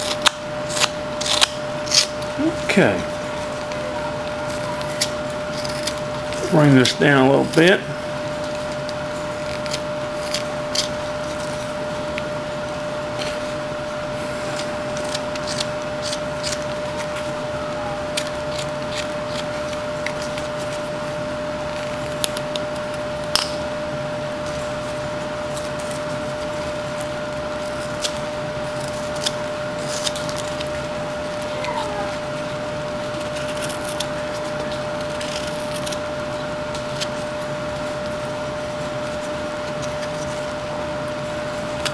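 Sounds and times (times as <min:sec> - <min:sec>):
steady background hum: 0:00.0 - 0:41.9.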